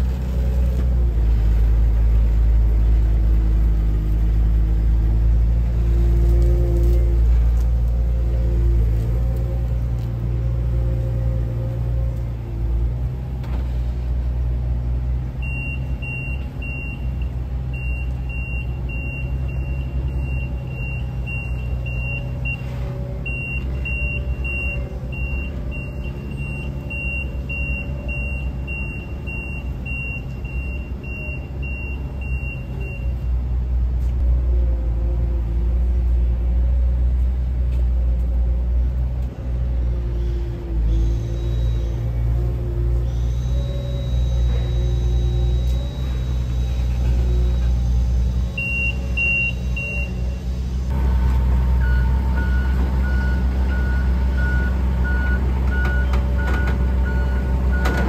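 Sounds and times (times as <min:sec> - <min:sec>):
forklift engine rumbling: 0:00.0 - 0:58.0.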